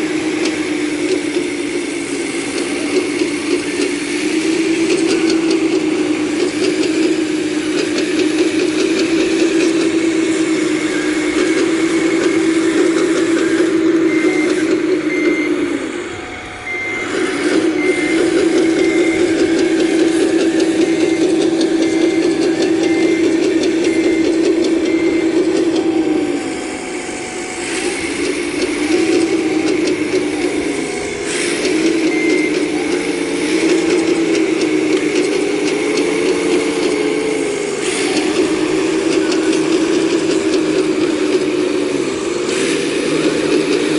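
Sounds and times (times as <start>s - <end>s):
excavator diesel engine: 0.0s - 43.9s
travel alarm beeping: 0.0s - 43.9s.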